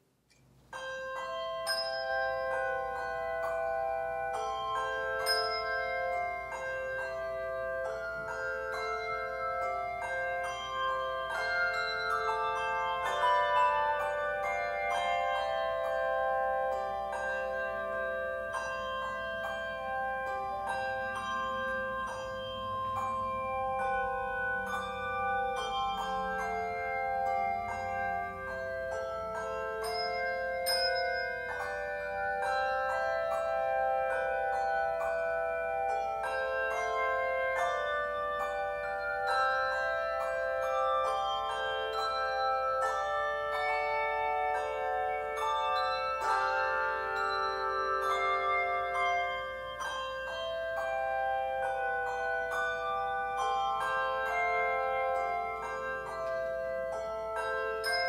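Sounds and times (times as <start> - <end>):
slow bell-like instrumental music: 0.0 - 58.0.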